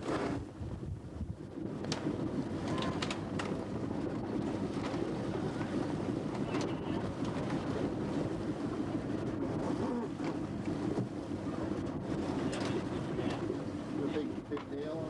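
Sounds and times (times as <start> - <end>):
wind noise: 0.0 - 14.0
boat engine running: 1.6 - 15.0.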